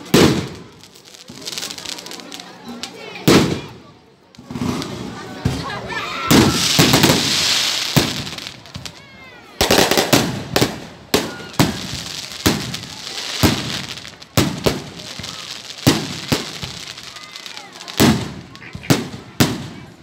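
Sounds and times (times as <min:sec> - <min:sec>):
fireworks bangs: 0:00.0 - 0:20.0
fireworks crackling: 0:00.0 - 0:20.0.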